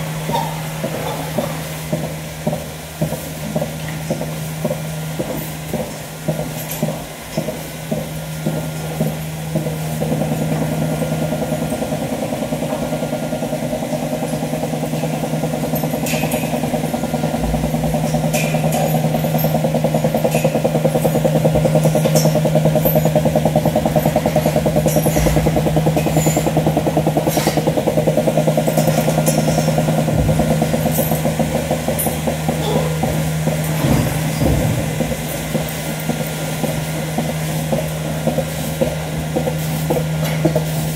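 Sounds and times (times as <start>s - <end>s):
milking machine pulsing hum: 0.0s - 40.9s.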